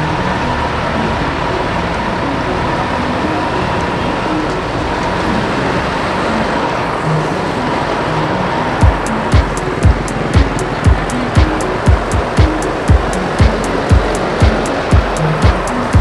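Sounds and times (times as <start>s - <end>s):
road construction machinery running: 0.0s - 16.0s.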